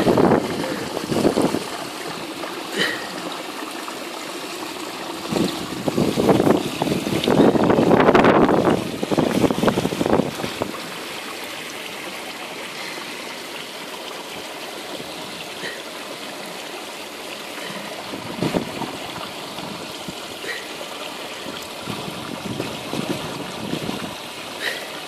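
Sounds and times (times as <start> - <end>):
water trickling in trough: 0.0 - 25.0.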